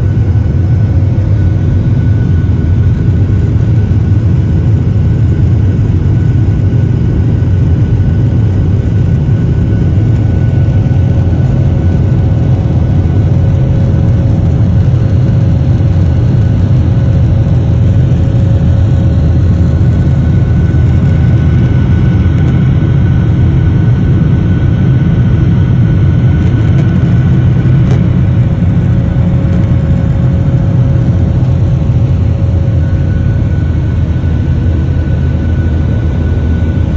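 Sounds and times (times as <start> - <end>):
faint steady whine: 0.0 - 36.9
jet engines roaring in cabin: 0.0 - 36.9.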